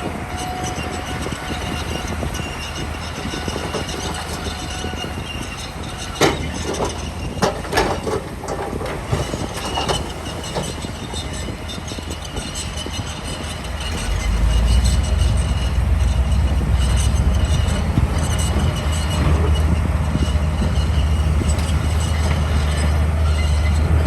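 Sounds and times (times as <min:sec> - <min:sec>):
bulldozer diesel engine running: 0:00.0 - 0:24.0
metallic track clanks and squeals: 0:00.0 - 0:24.0.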